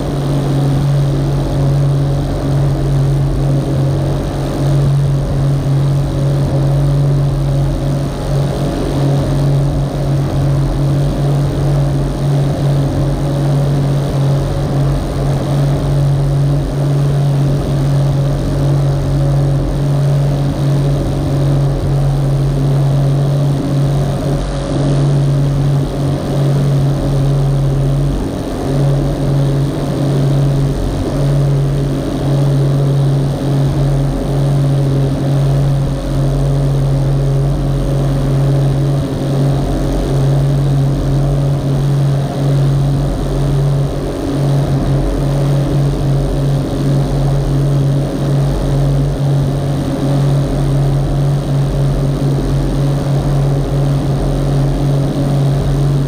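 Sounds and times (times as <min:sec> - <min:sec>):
boat engine droning: 0:00.0 - 0:56.0
water rushing along hull: 0:00.0 - 0:56.0.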